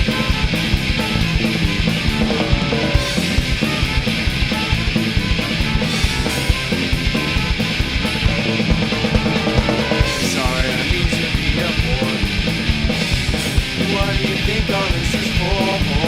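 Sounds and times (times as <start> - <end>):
busy drum beat: 0.0 - 16.0
ska-punk band playing: 0.0 - 16.0.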